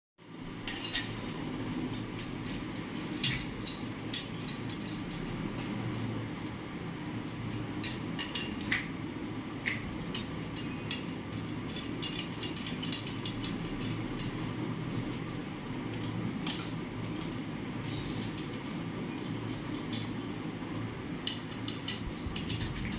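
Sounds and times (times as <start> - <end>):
sharp light clicks and clinks: 0.6 - 8.9, 9.6 - 22.9.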